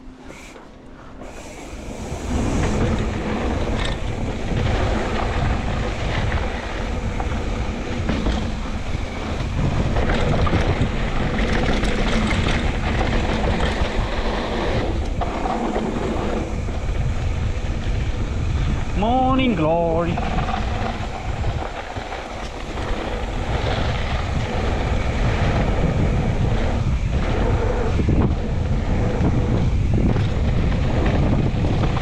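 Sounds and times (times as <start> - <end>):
wind buffeting microphone: 1.2 - 32.0
bike clattering over rough trail: 2.3 - 19.4, 20.1 - 32.0.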